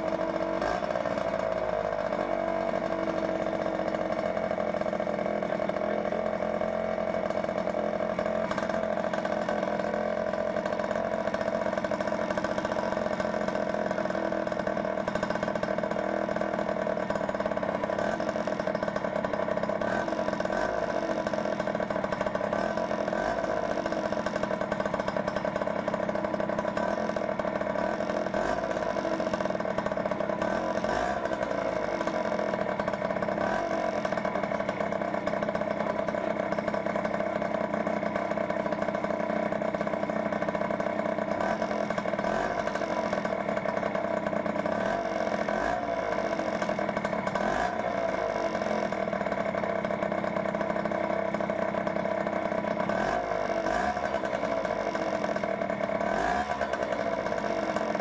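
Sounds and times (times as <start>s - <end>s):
two-stroke engine idling: 0.0s - 58.0s.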